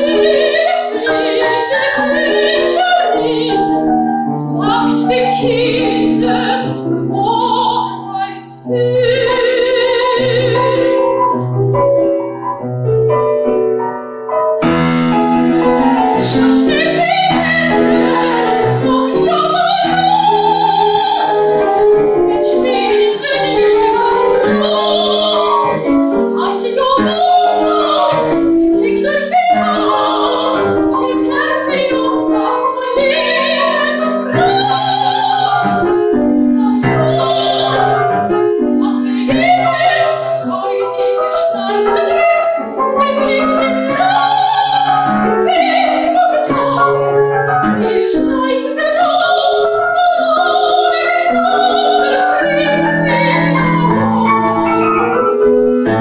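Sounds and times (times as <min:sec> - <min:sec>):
grand piano: 0:00.0 - 0:56.0
soprano singing: 0:00.0 - 0:56.0.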